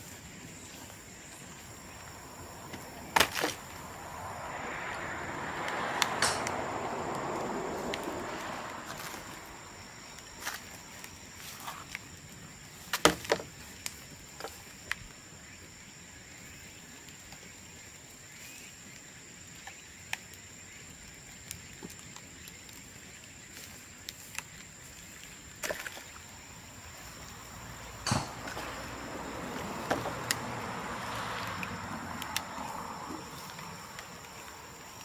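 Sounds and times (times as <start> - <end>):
bamboo bonfire crackling and popping: 0.0 - 35.0.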